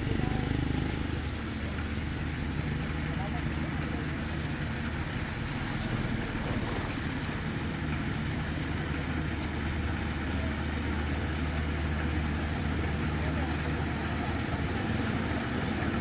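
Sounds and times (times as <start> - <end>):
harvester engine droning: 0.0 - 16.0.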